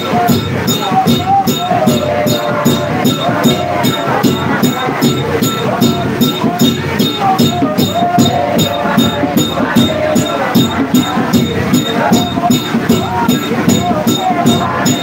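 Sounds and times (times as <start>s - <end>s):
congregation singing: 0.0s - 15.0s
large hand drum with rattle: 0.0s - 15.0s.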